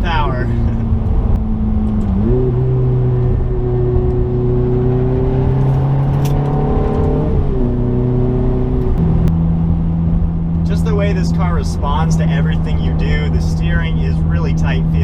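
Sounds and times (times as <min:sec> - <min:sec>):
car engine accelerating: 0:00.0 - 0:15.0
gear change: 0:00.0 - 0:15.0.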